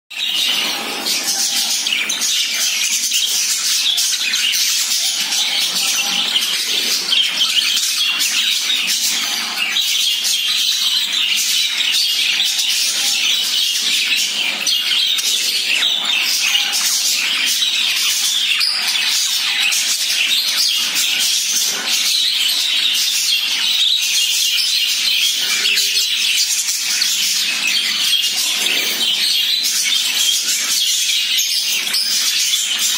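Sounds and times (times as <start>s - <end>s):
budgerigars chattering: 0.2s - 32.9s.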